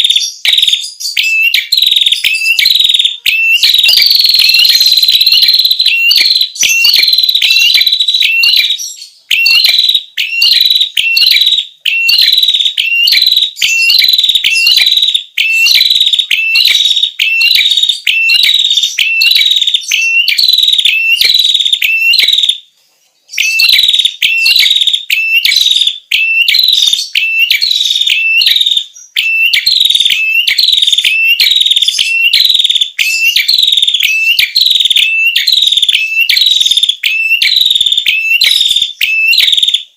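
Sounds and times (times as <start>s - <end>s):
bird call notes: 0.0s - 22.6s, 23.4s - 39.9s.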